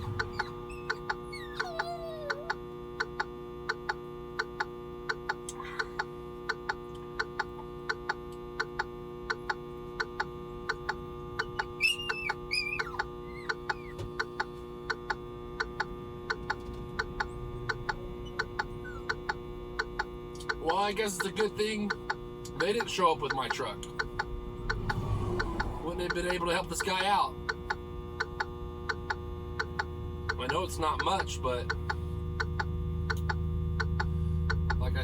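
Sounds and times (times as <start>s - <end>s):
steady electrical hum: 2.5s - 35.0s
fast even ticking: 6.5s - 34.8s.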